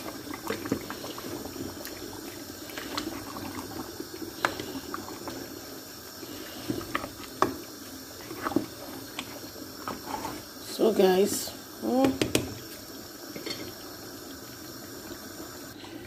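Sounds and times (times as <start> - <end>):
stew simmering in a pot: 0.0 - 16.0.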